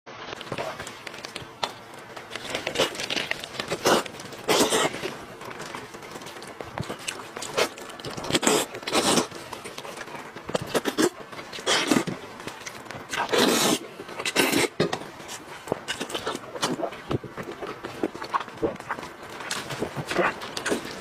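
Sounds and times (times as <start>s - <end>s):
crunches and crinkles: 0.2s - 21.0s
meat being bitten and chewed: 0.3s - 21.0s.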